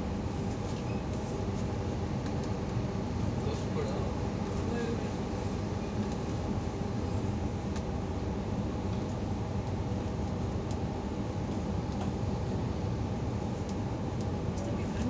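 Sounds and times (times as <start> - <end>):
train running noise inside carriage: 0.0 - 15.0.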